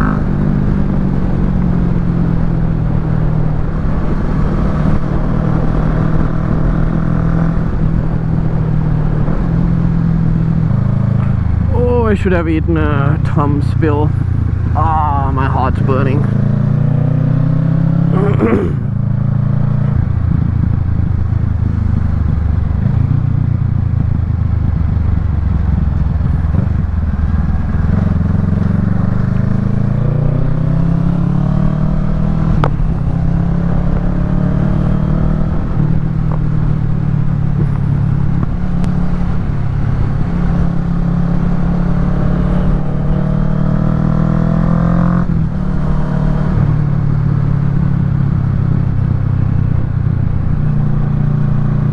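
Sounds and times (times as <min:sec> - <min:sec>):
motorcycle engine accelerating: 0:00.0 - 0:51.9
road and wind rumble: 0:00.0 - 0:51.9.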